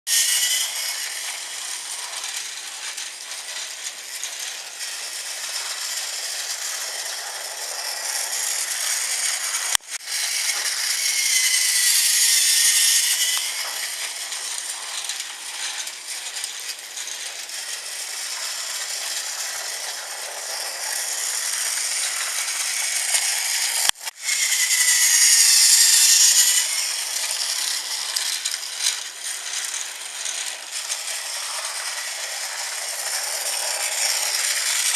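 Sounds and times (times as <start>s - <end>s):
toy train motor whirring: 0.1s - 34.9s.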